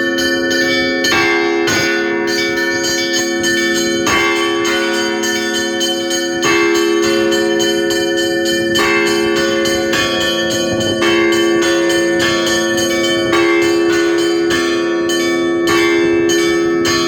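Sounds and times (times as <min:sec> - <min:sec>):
large bell humming: 0:00.0 - 0:17.0
small church bells struck quickly: 0:00.0 - 0:17.0.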